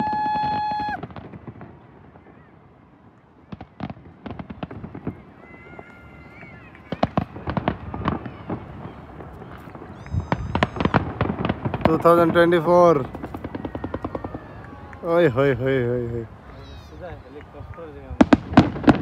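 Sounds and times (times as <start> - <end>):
distant fireworks bangs and crackles: 0.0 - 19.0.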